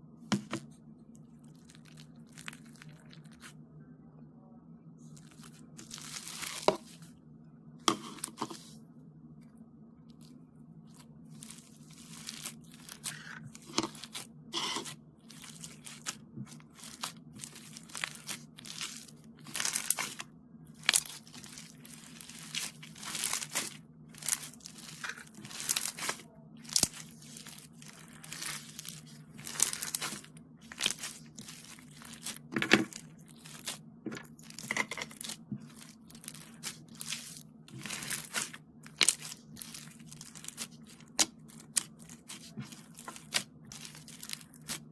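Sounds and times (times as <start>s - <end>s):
foam slime squishing: 1.4s - 3.5s, 5.1s - 7.1s, 10.1s - 44.9s.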